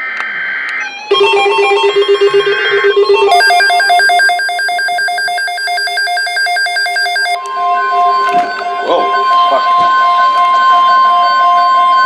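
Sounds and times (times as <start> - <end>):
loud electronic beeping: 0.0 - 12.0
high alternating beep: 0.8 - 12.0.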